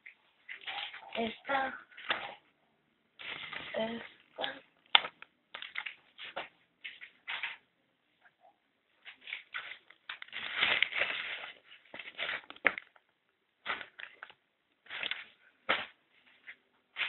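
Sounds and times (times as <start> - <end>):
paper rustling: 0.0 - 2.4, 3.2 - 7.6, 9.0 - 13.0, 13.6 - 17.0.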